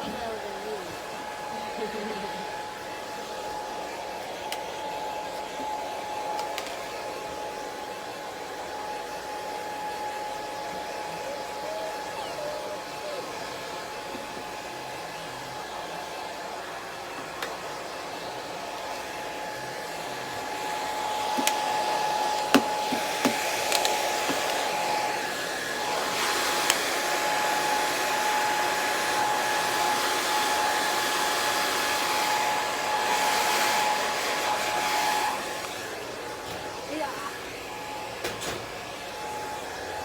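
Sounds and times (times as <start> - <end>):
hair dryer blowing: 0.0 - 40.0.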